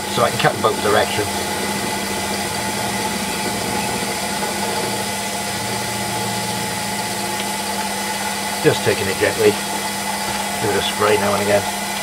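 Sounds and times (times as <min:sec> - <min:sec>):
end mill cutting metal: 0:00.0 - 0:12.0
machine hum: 0:00.0 - 0:12.0.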